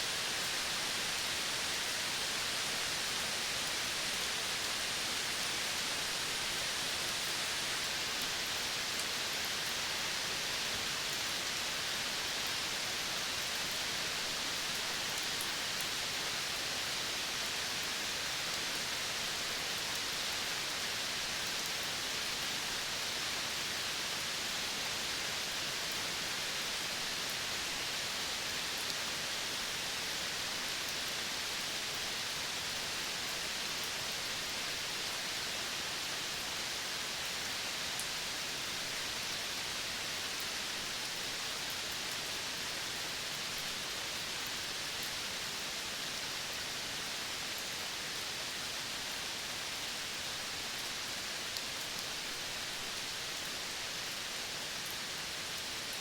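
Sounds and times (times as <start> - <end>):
forest ambience hiss: 0.0 - 56.0.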